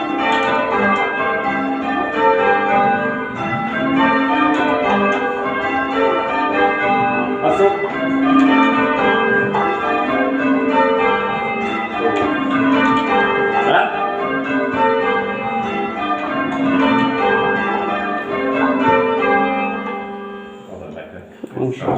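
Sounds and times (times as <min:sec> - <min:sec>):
church bells ringing: 0:00.0 - 0:21.9.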